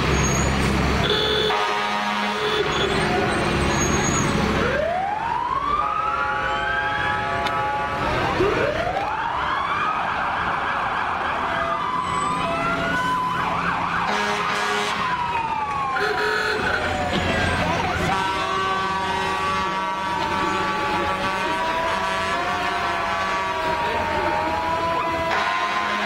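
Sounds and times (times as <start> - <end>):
fire truck siren wailing: 0.0 - 26.0.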